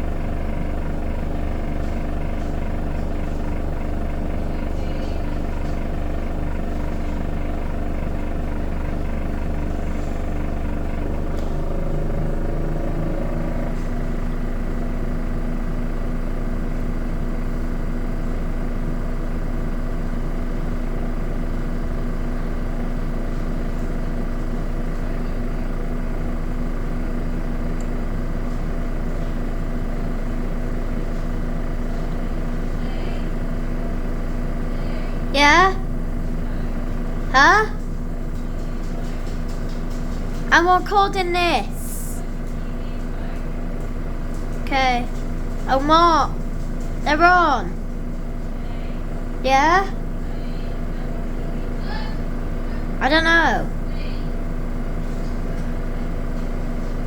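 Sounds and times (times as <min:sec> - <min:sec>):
washing machine spin cycle: 0:00.0 - 0:57.0.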